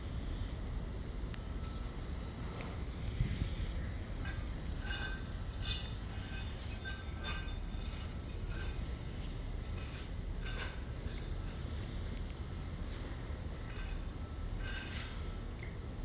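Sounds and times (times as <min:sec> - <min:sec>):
steady low rumble: 0:00.0 - 0:14.7.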